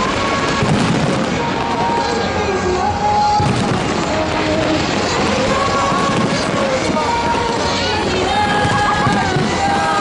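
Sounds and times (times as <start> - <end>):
crowd cheering and yelling: 0.0 - 10.0
music: 0.0 - 10.0.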